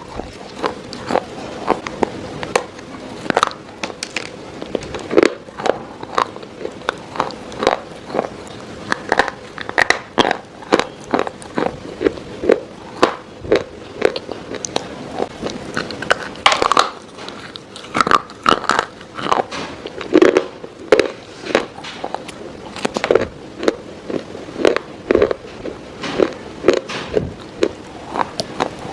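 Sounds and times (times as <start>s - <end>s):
biting and crunching something brittle: 0.0s - 28.9s.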